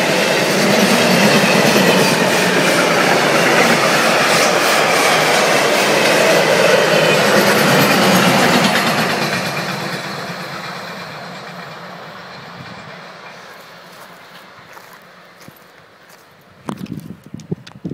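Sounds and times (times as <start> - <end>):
freight train rolling past: 0.0 - 16.7.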